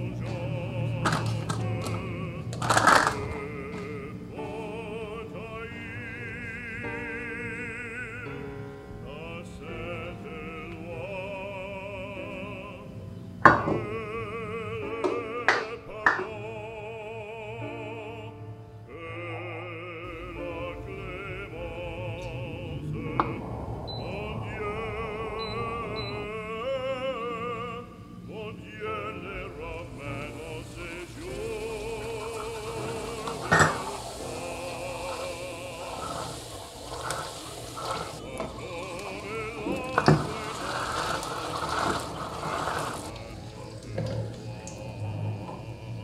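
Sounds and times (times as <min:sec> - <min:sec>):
background music: 0:00.0 - 0:46.0
singing voice with vibrato: 0:00.0 - 0:46.0.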